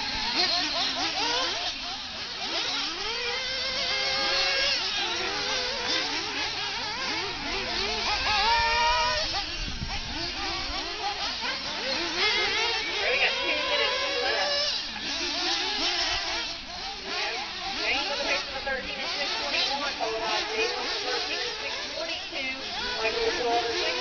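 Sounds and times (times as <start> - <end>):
small engines revving: 0.0 - 24.0.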